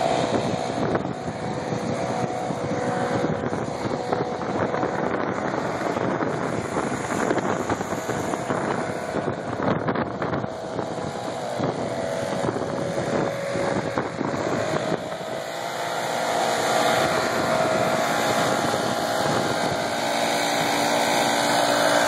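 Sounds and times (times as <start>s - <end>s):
lawn mower engine running: 0.0s - 22.0s
leaf blower: 0.0s - 22.0s.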